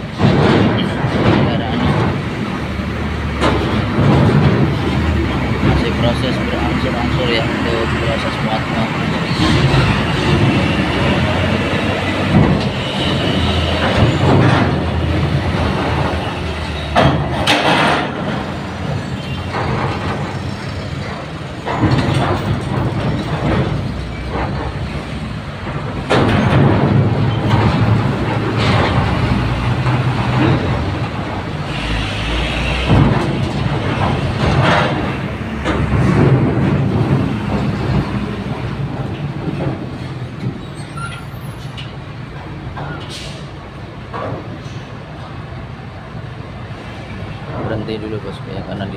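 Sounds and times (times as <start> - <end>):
wheels clanking on steel ramp plates: 0.0 - 46.0
diesel truck engines running: 0.0 - 48.9.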